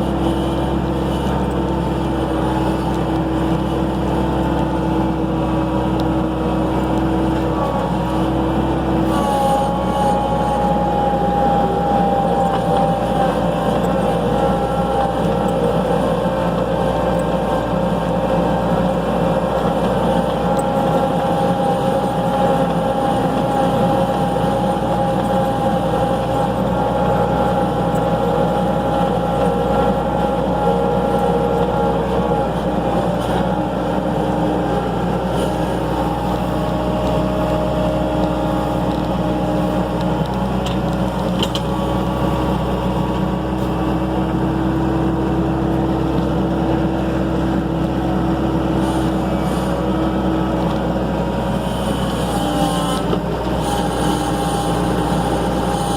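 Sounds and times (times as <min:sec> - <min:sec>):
skid steer engine running: 0:00.0 - 0:55.9.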